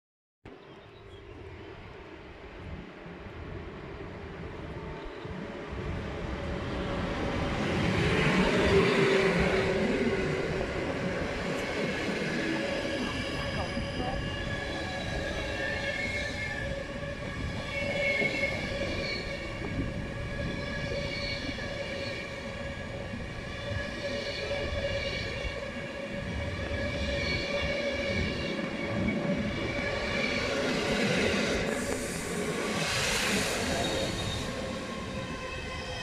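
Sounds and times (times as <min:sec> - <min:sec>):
train rail noise: 0:01.4 - 0:36.0.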